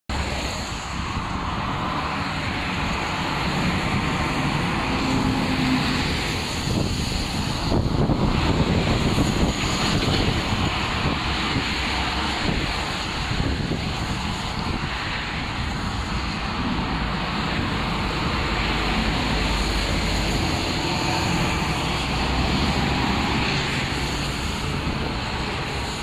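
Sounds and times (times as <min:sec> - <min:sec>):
road traffic passing: 0:00.1 - 0:26.0
truck passing: 0:00.1 - 0:26.0.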